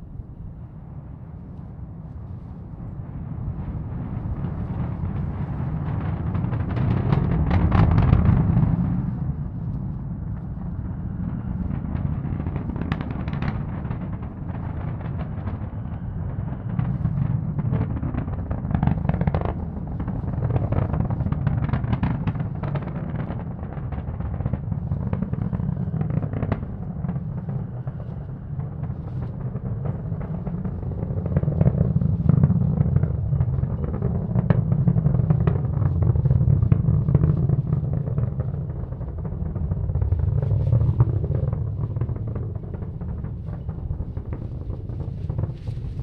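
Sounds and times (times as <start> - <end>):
rocket engines roaring with crackles: 0.0 - 46.0.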